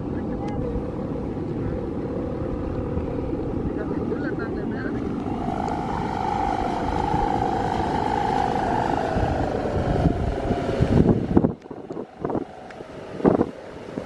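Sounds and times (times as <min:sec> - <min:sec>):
kite hummer droning: 0:00.0 - 0:14.0
wind buffeting microphone: 0:00.0 - 0:14.0.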